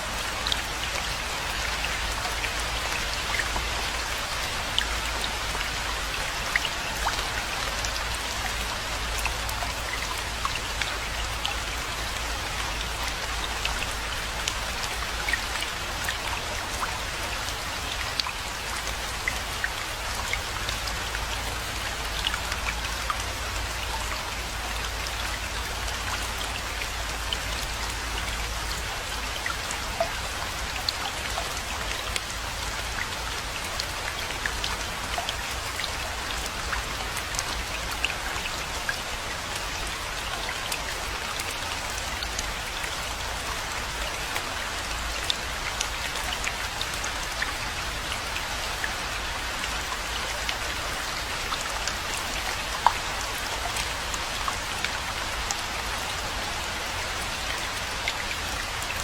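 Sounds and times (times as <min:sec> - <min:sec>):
raindrops ticking on surfaces: 0:00.0 - 0:59.0
steady rainfall: 0:00.0 - 0:59.0.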